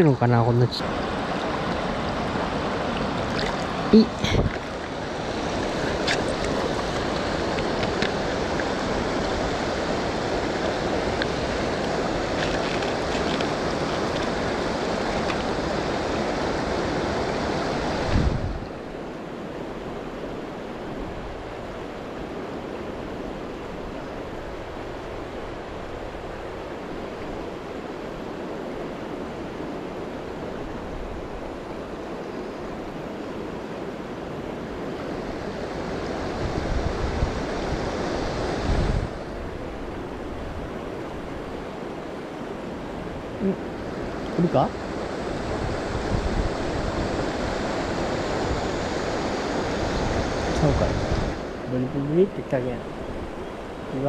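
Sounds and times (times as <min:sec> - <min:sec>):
river current rushing: 0:00.0 - 0:54.0.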